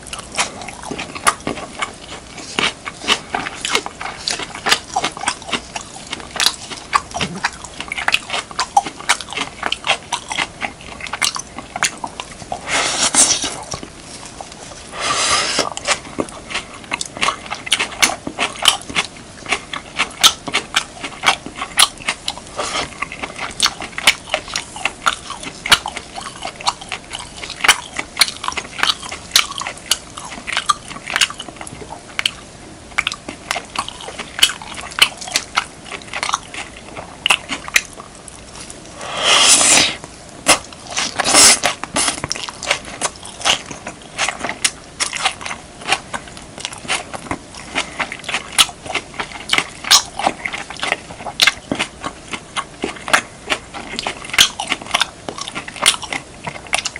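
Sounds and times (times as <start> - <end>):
loud chewing crunches: 0.0 - 56.9
person chewing food wetly: 0.0 - 56.9.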